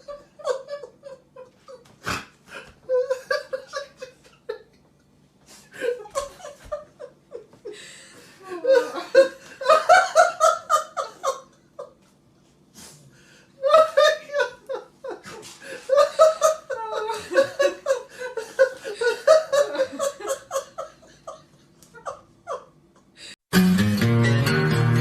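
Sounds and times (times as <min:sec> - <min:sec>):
person laughing: 0:00.0 - 0:01.9, 0:02.5 - 0:04.8, 0:05.7 - 0:12.0, 0:13.6 - 0:23.2.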